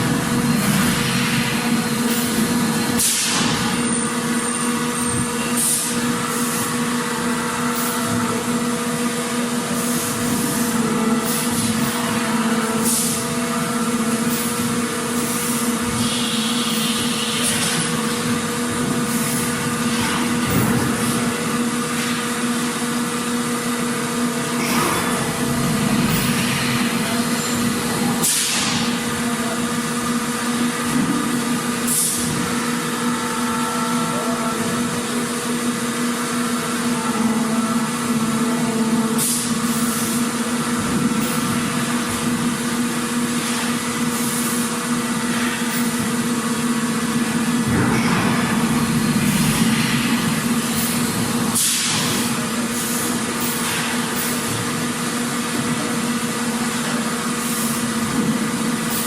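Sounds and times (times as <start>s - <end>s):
factory machinery hum: 0.0s - 59.0s.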